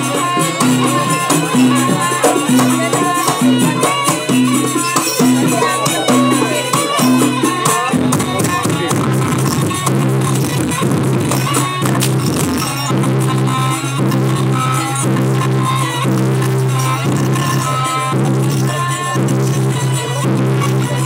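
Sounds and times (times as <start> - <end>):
gamelan ensemble playing: 0.0 - 21.0.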